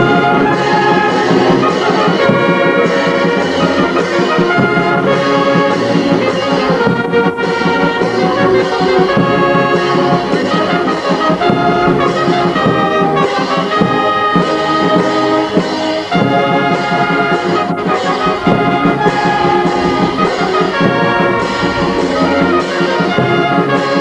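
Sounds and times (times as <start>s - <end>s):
bass drum: 0.0s - 24.0s
brass band playing: 0.0s - 24.0s
cymbals: 0.0s - 24.0s.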